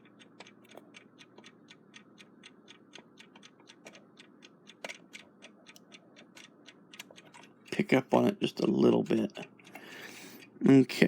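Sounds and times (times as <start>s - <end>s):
alarm clock ticking faintly: 0.0s - 11.0s.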